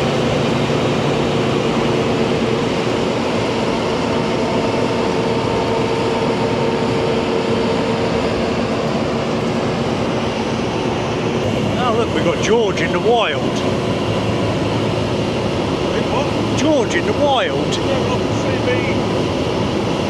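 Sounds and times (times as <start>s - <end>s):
farm machinery droning: 0.0s - 19.8s
steady machine whine: 0.0s - 20.0s.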